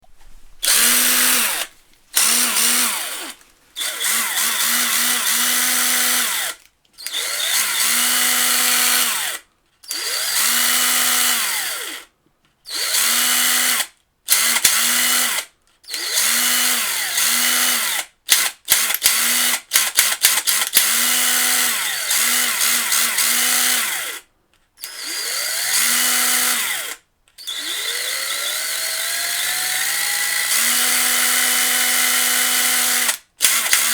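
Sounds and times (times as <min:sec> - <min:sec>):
cordless drill motor whining: 0:00.6 - 0:12.0, 0:12.7 - 0:13.8, 0:14.4 - 0:18.0, 0:20.8 - 0:33.9.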